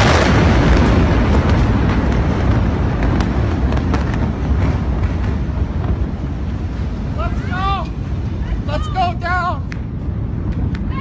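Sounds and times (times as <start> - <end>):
explosion rumble: 0.0 - 11.0.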